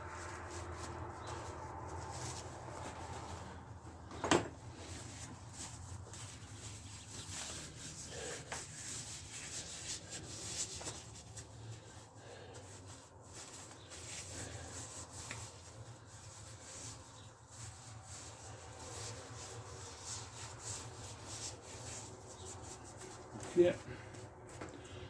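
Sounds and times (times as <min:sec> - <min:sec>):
scraping and rubbing of parts: 0:00.0 - 0:25.0.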